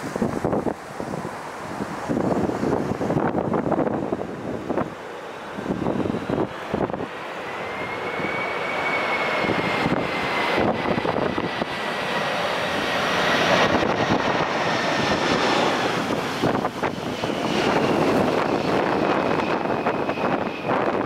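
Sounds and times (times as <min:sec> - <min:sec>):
high engine whine: 0:00.0 - 0:21.0
jet engine roar: 0:00.0 - 0:21.0.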